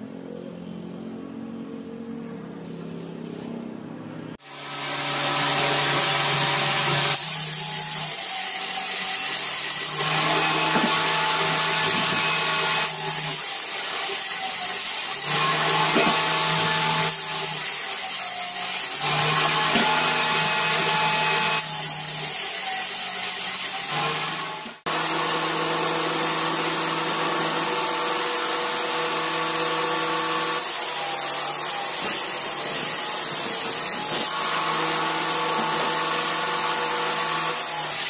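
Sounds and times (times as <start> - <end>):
table saw cutting plywood: 4.4 - 38.0.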